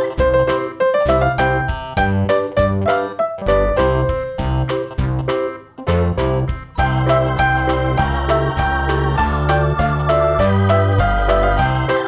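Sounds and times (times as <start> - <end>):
keyboard music over a beat: 0.0 - 12.0.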